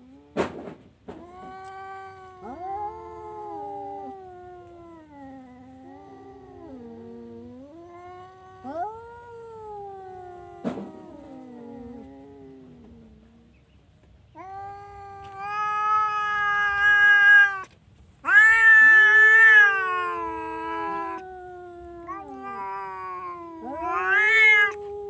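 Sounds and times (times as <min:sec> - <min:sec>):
cat yowling: 0:01.1 - 0:13.5, 0:14.3 - 0:25.0.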